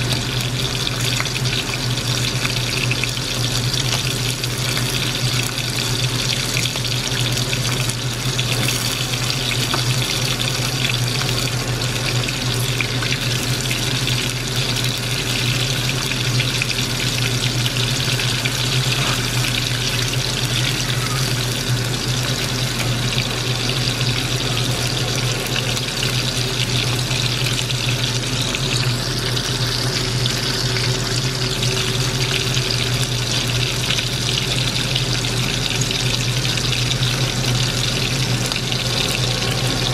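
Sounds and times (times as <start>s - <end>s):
squid deep-frying in oil: 0.0s - 39.9s.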